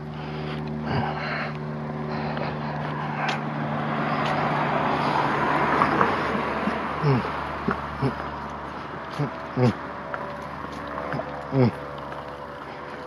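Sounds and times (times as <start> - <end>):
car passing: 0.0 - 13.0
steady low hum: 0.0 - 13.0.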